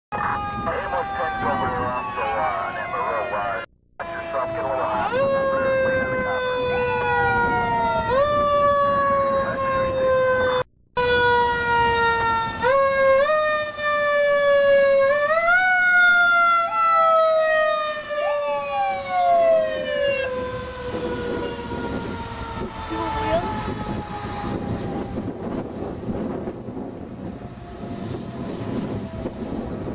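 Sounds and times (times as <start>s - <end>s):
fast falling siren tone: 0.1s - 29.9s
mechanical fire truck siren: 0.1s - 29.9s.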